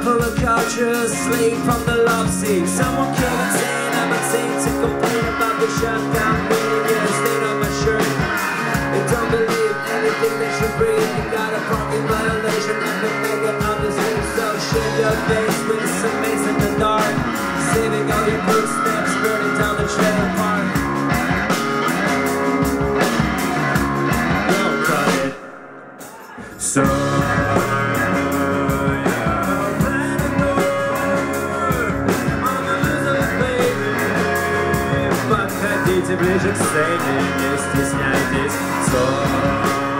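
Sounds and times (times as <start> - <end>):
bass guitar: 0.0 - 39.9
drums: 0.0 - 39.9
electric guitars: 0.0 - 39.9.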